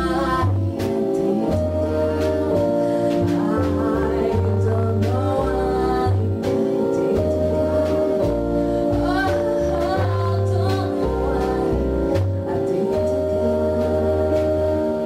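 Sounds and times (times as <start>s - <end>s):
keyboard: 0.0s - 15.0s
upright bass notes: 0.0s - 15.0s
woman singing with vibrato: 0.0s - 15.0s.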